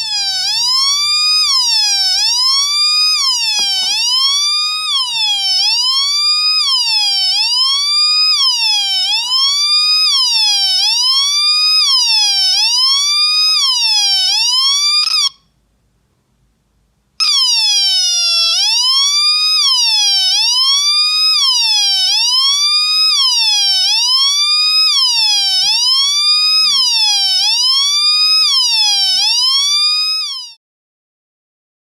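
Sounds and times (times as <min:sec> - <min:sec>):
wailing siren tone through speaker: 0:00.0 - 0:15.4, 0:17.2 - 0:30.6.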